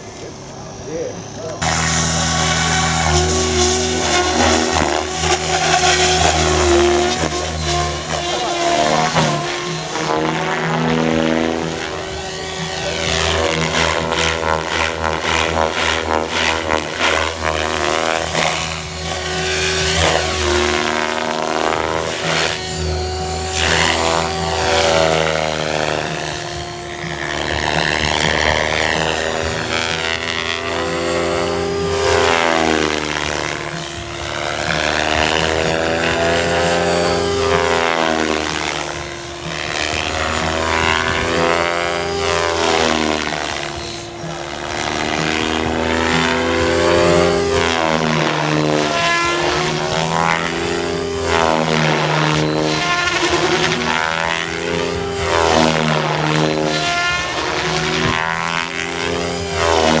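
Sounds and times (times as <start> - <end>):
rc helicopter rotor buzzing: 0.0 - 60.0.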